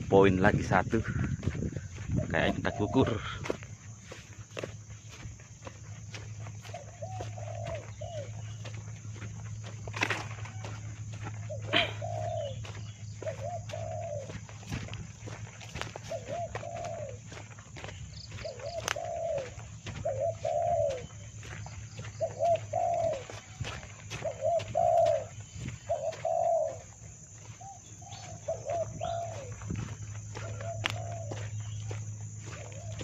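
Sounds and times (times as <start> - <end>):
dove cooing: 0.0 - 33.0
steady low hum: 0.0 - 33.0.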